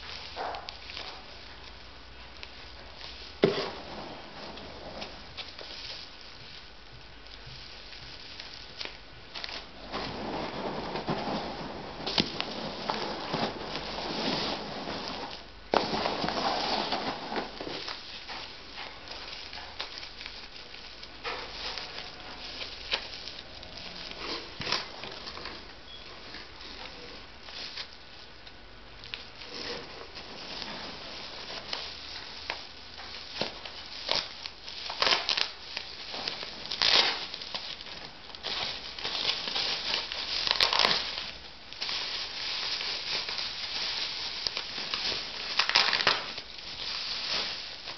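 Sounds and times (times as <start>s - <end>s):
packaging crinkling and rustling: 0.0s - 47.9s.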